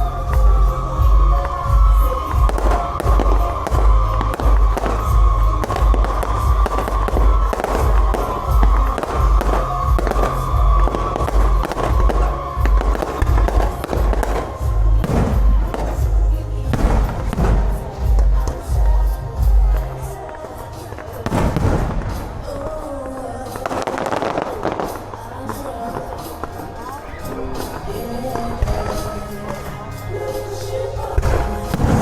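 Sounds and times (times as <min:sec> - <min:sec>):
fireworks crackling and banging: 0:00.0 - 0:32.0
music with heavy bass beat: 0:00.0 - 0:32.0.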